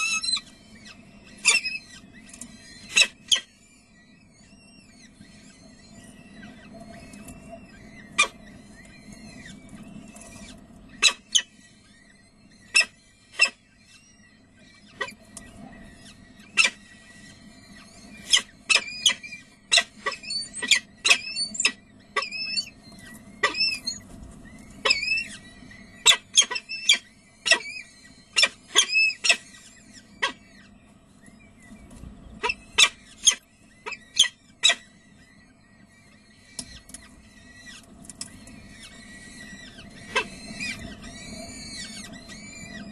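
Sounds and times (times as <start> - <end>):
faint steady hum: 0.0 - 42.9
falcon chicks begging chirps: 0.0 - 42.9.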